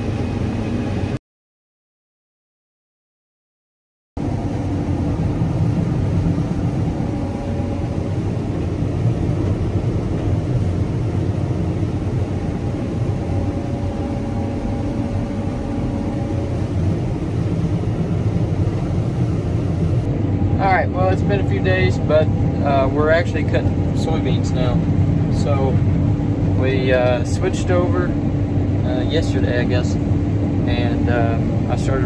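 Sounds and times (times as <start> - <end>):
combine harvester running: 0.0 - 1.2, 4.2 - 32.0.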